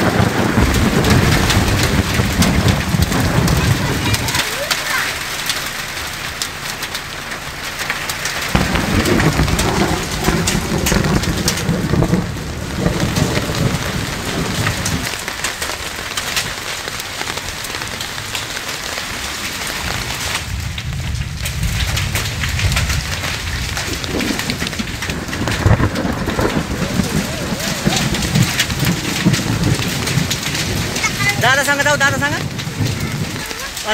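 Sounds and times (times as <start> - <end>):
low rumble: 0.0 - 16.4, 19.3 - 33.9
hailstones ticking: 0.0 - 33.9
rain pattering: 0.0 - 33.9.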